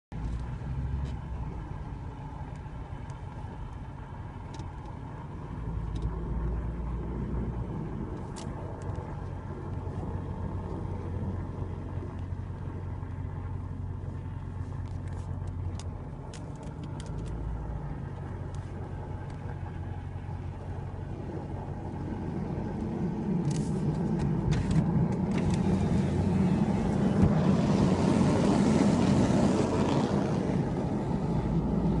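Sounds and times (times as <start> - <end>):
car engine humming: 0.1 - 32.0.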